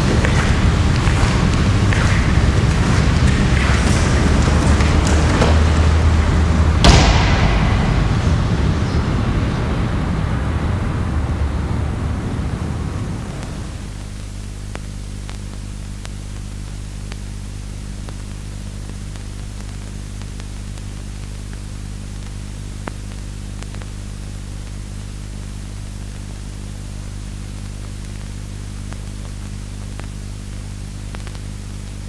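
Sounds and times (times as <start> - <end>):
constant hiss: 0.0 - 32.0
steady low hum: 0.0 - 32.0.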